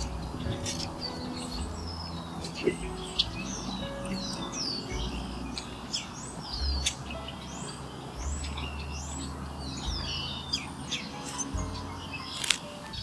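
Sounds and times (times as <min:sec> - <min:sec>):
low rumble: 0:00.0 - 0:12.4
small birds chirping: 0:00.0 - 0:13.0.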